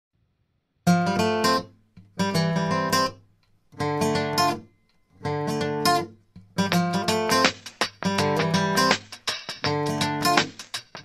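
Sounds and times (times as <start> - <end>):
strummed acoustic guitar: 0.9 - 11.0.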